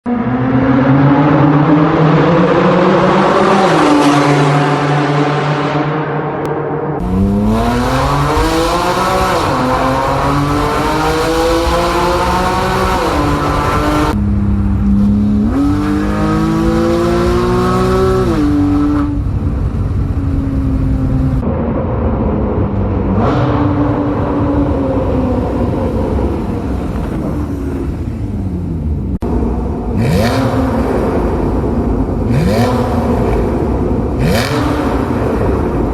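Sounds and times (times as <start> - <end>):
sports car engine accelerating: 0.1 - 21.5, 23.0 - 35.9.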